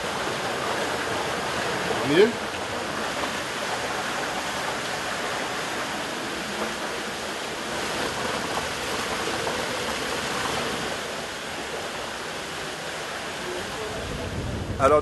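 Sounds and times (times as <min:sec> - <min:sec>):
river rushing over boulders: 0:00.0 - 0:15.0.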